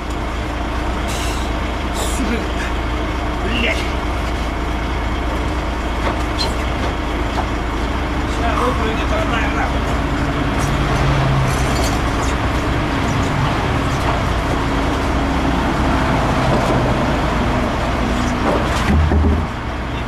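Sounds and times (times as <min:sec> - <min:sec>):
highway traffic: 0:00.0 - 0:20.0.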